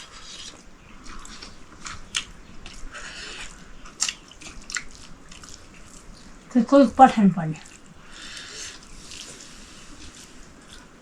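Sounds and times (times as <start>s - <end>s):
person chewing: 0.0s - 6.5s, 7.6s - 11.0s.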